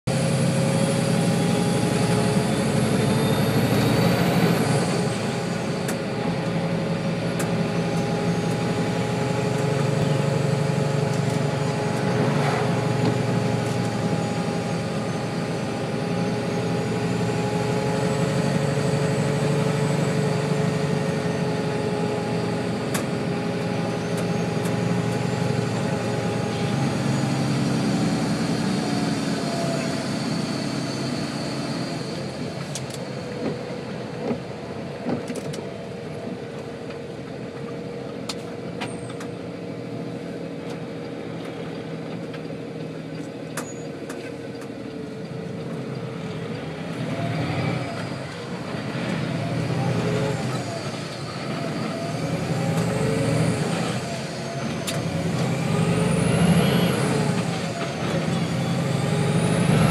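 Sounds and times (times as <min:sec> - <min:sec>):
truck diesel engine and road noise: 0:00.0 - 0:59.9.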